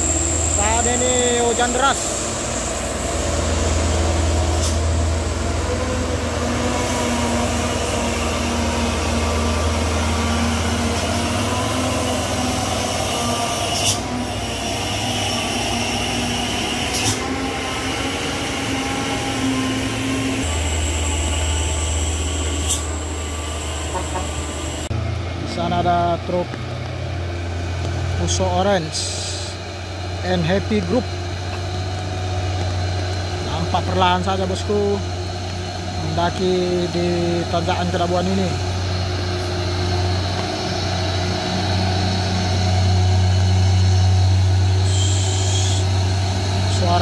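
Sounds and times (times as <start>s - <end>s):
diesel truck engines droning: 0.0s - 47.0s.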